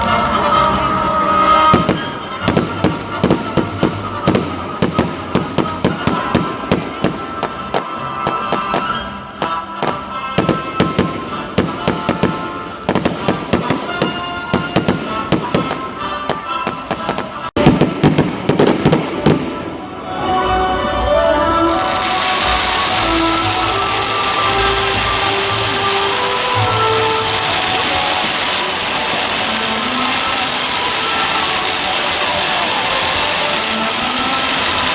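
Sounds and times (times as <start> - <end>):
fireworks bangs and crackles: 0.0 - 20.2, 21.8 - 34.9
music playing: 0.0 - 34.9.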